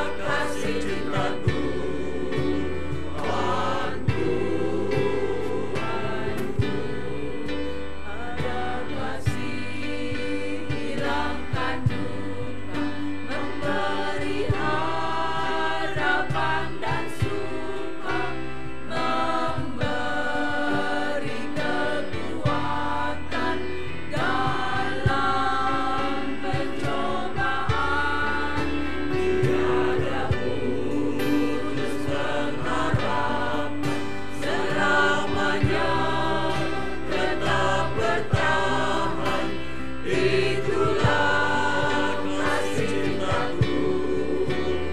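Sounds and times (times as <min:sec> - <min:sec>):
choir singing a hymn: 0:00.0 - 0:44.9.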